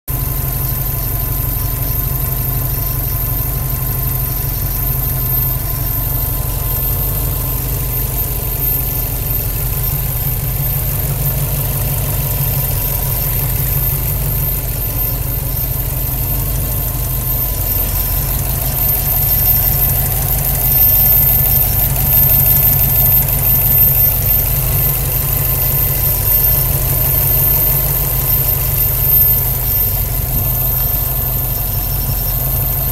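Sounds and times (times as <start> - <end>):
car engine idling: 0.2 - 32.9.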